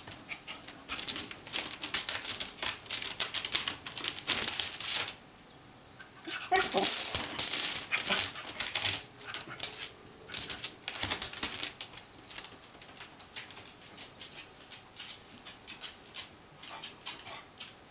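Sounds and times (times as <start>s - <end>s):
dog claws clicking on mat: 0.0s - 5.2s, 6.6s - 17.8s.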